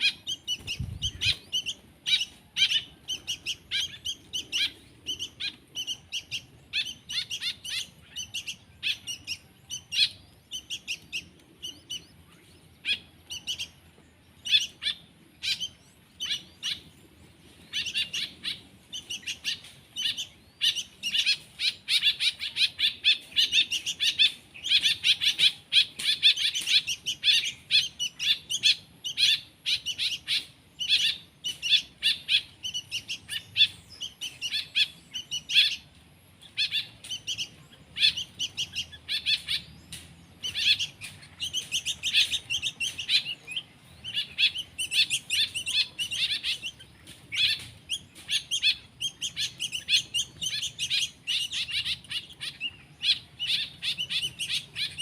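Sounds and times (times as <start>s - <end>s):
songbird chicks chirping: 0.0s - 55.0s.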